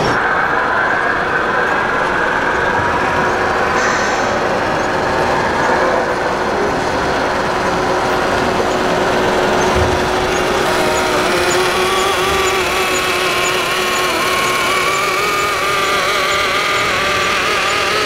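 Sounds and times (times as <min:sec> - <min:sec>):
constant hum: 0:00.0 - 0:18.0
model truck engine drone: 0:00.0 - 0:18.0.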